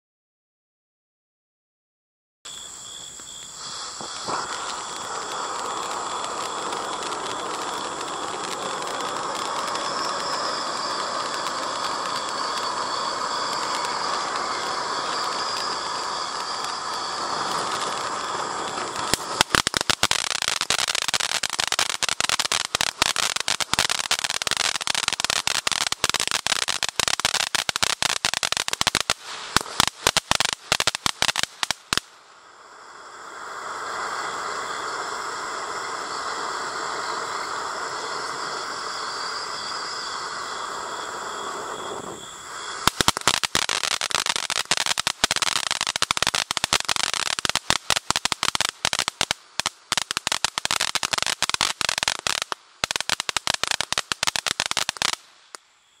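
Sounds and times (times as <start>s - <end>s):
firework fountain crackling: 2.5s - 56.0s
firework hissing spray: 2.5s - 56.0s.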